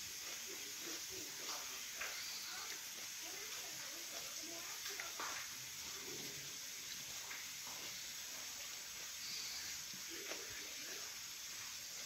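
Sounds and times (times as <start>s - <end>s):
faint room tone hiss: 0.0s - 12.0s
soft chewing: 0.1s - 12.0s.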